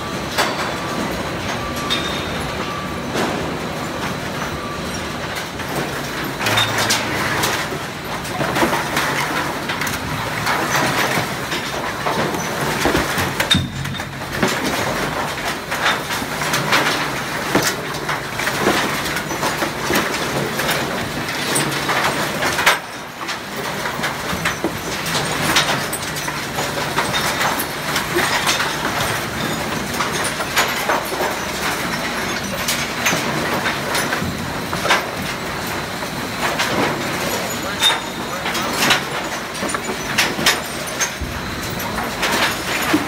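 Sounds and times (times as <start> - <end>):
rubbish clattering and knocking in drum: 0.0 - 43.0.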